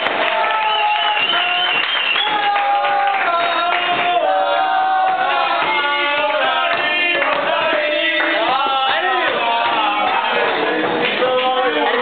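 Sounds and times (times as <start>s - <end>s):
murmur of voices: 2.2s - 12.0s
man singing unaccompanied: 2.3s - 12.0s.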